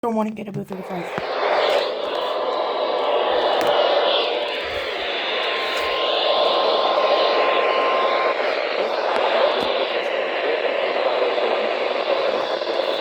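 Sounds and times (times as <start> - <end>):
radio static hiss: 0.6 - 13.0.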